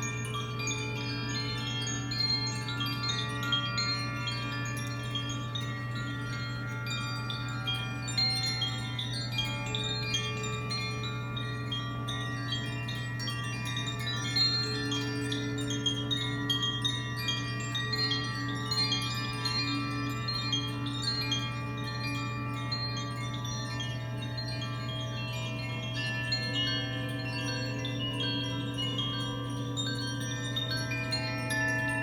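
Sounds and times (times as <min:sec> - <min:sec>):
chimes ringing: 0:00.0 - 0:32.0.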